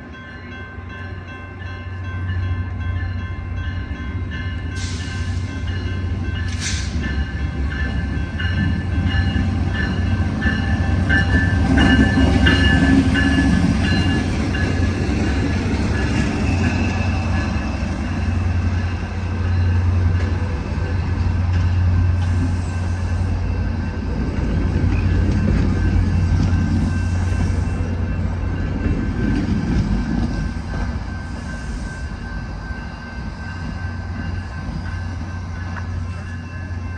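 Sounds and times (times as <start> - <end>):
rumble of rolling train cars: 0.0 - 36.9.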